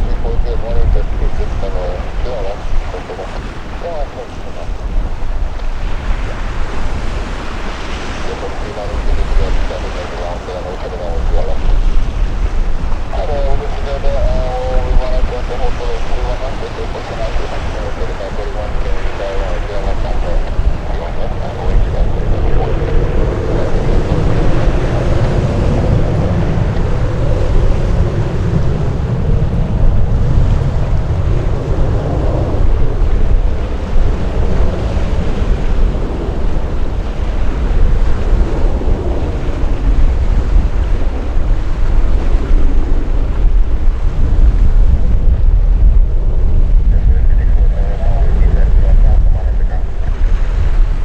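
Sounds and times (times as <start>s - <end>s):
jet engine rumble: 0.0s - 51.0s
wind buffeting microphone: 0.0s - 51.0s.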